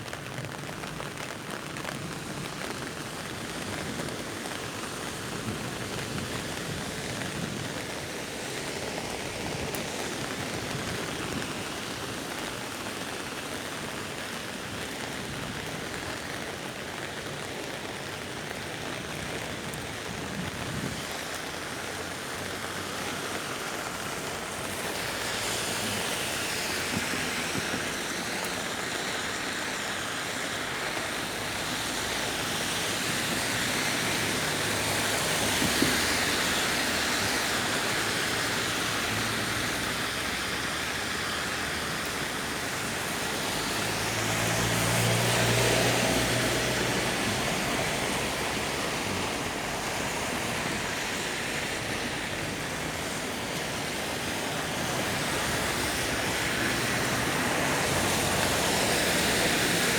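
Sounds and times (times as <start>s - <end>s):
steady rain: 0.0s - 59.9s
traffic on wet roads: 0.0s - 59.9s.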